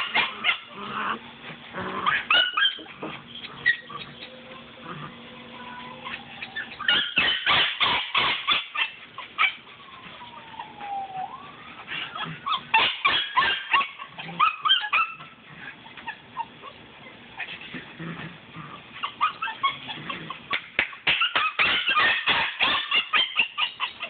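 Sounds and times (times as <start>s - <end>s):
puppy yipping and whimpering: 0.0s - 1.2s, 2.0s - 17.7s, 19.0s - 24.0s.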